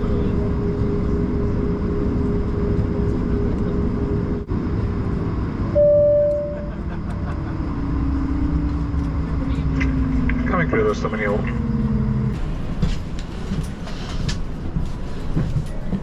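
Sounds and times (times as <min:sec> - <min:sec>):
aircraft cabin rumble and whine: 0:00.0 - 0:16.0.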